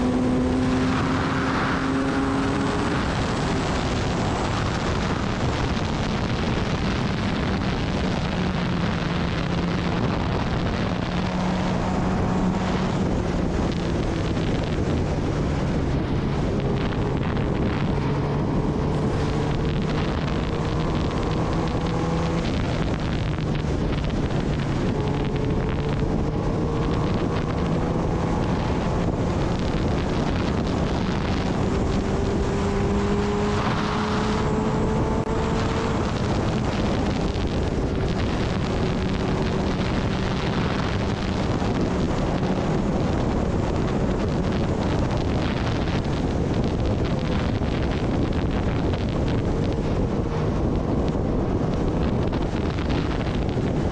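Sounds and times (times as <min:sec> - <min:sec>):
motorcycle engine cruising: 0:00.0 - 0:53.9
wind rushing on microphone: 0:00.0 - 0:53.9.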